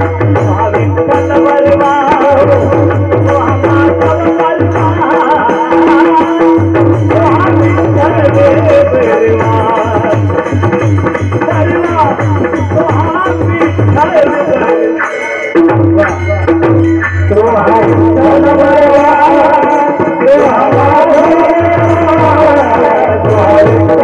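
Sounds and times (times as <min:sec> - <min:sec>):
drum beating steady rhythm: 0:00.0 - 0:24.0
person singing devotional song: 0:00.0 - 0:24.0.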